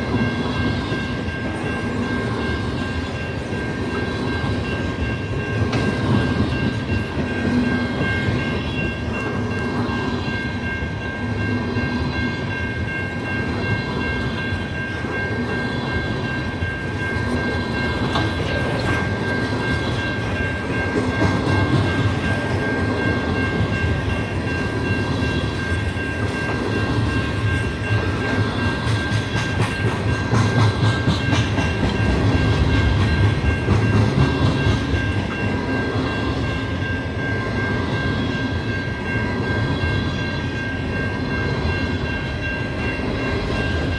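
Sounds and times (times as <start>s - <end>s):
train wheels clicking over rail joints: 0.0s - 11.5s, 12.3s - 36.6s.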